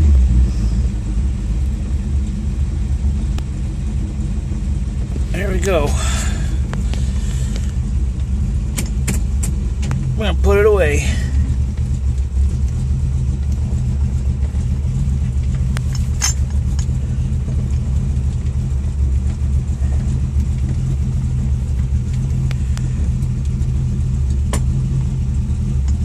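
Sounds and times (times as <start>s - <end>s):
car engine deep rumble: 0.0s - 26.0s.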